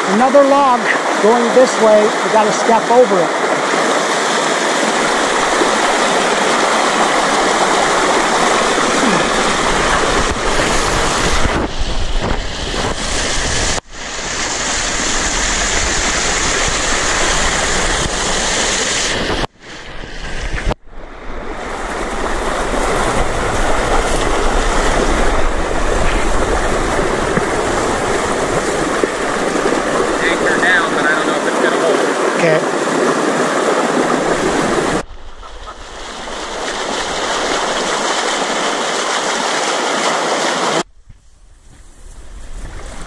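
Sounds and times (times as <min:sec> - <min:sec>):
river water rushing and splashing: 0:00.0 - 0:40.9.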